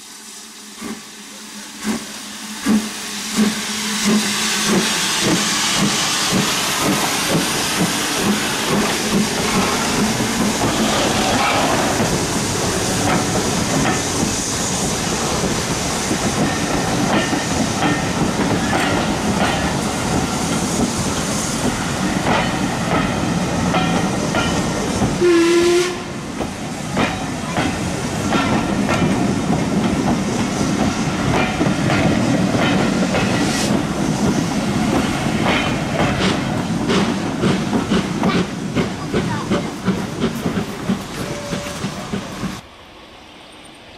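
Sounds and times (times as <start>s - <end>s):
steam hissing: 0.0s - 42.7s
steam locomotive pulling away: 0.0s - 43.9s
train wheels clicking over rail joints: 1.8s - 25.4s, 26.3s - 42.6s.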